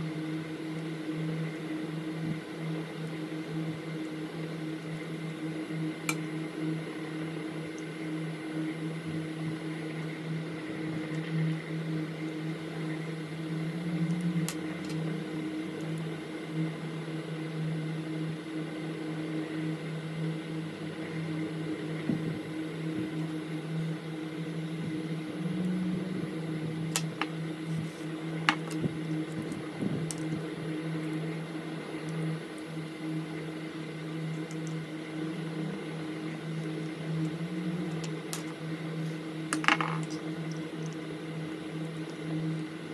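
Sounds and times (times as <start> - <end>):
small machine whirring hum: 0.0 - 42.9.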